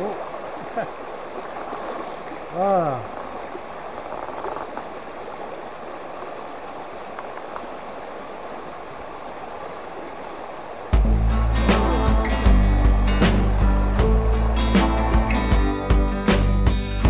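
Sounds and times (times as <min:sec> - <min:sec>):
stream water rushing over rocks: 0:00.0 - 0:15.7.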